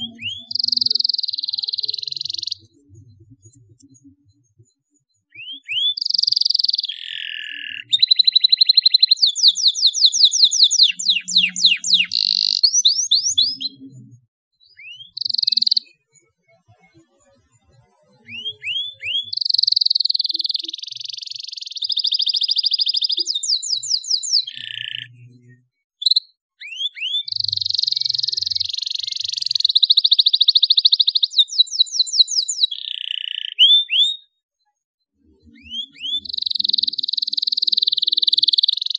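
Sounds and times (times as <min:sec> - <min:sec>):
canary singing trills: 0:00.0 - 0:34.4, 0:35.1 - 0:38.9.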